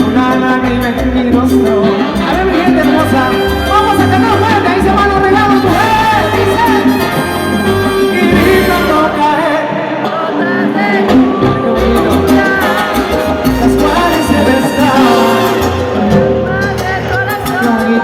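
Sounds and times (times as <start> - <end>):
salsa orchestra playing: 0.0 - 18.0.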